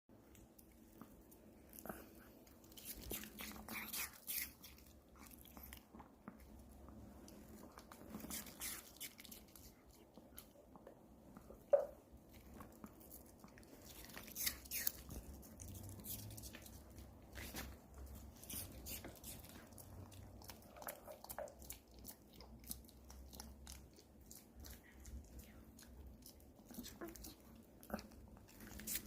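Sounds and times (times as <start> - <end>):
dog crunching apple: 1.6 - 6.5, 7.3 - 10.5, 12.3 - 29.0.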